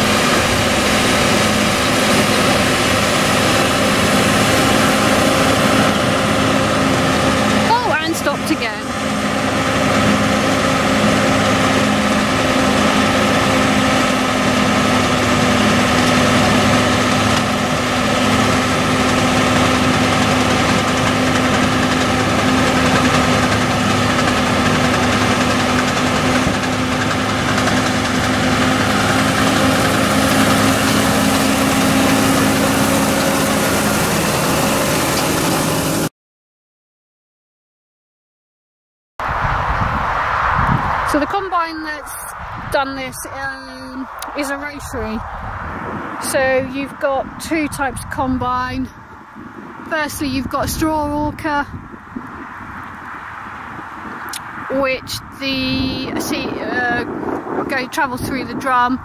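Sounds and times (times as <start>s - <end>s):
tractor and baler running: 0.0s - 36.1s, 40.9s - 59.0s.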